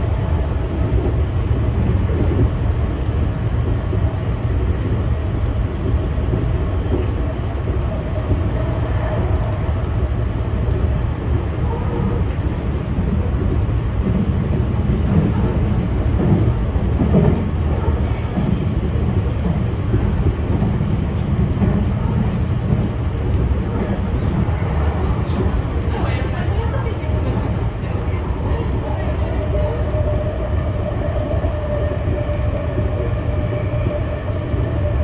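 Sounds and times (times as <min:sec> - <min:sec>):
electric train rumble: 0:00.0 - 0:35.0.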